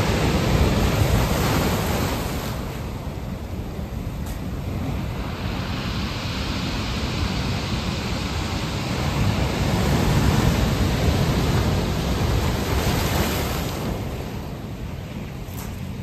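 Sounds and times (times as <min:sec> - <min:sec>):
wind storm: 0:00.0 - 0:16.0.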